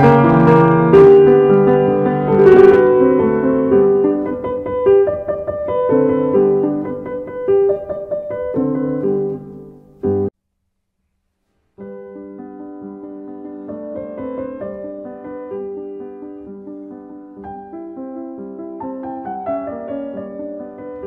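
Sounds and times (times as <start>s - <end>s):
slow piano music: 0.0s - 10.3s, 11.8s - 21.0s.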